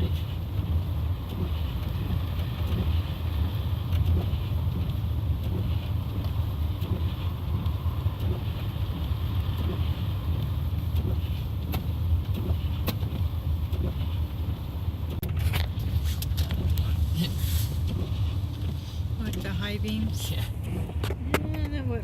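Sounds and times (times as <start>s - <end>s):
vehicle rumble on snowy road: 0.0s - 22.0s.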